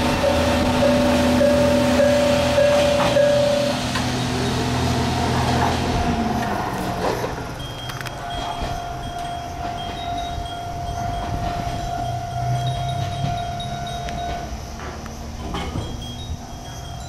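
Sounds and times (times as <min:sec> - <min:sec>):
diesel railcar engine running: 0:00.0 - 0:17.0.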